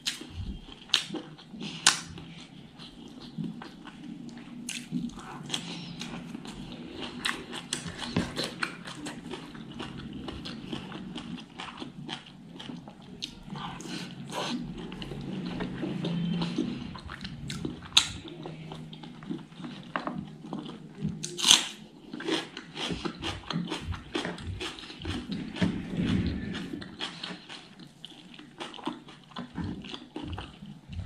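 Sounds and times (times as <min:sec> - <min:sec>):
chewing food: 0:00.0 - 0:31.0.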